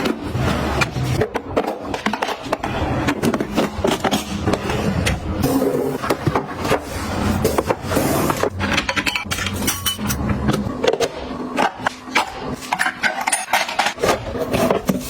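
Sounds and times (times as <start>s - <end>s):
hard objects clicking and knocking: 0.0s - 15.0s.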